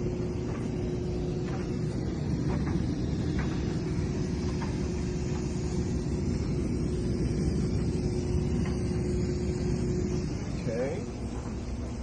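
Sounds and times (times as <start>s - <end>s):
blower rumbling: 0.0s - 12.0s
faint steady hum: 0.0s - 12.0s.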